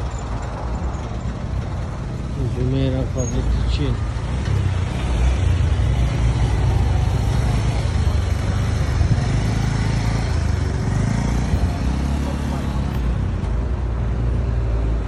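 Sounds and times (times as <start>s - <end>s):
low traffic rumble: 0.0s - 15.0s
vehicles passing: 0.0s - 15.0s.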